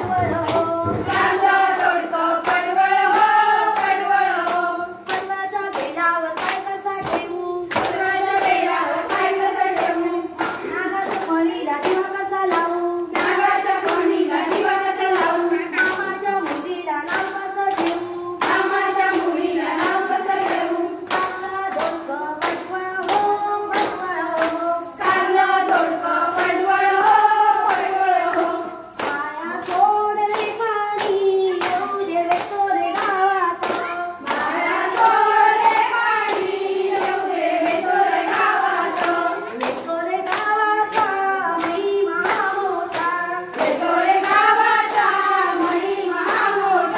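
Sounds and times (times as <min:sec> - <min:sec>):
hand claps: 0:00.0 - 0:46.9
women singing folk song: 0:00.0 - 0:46.9.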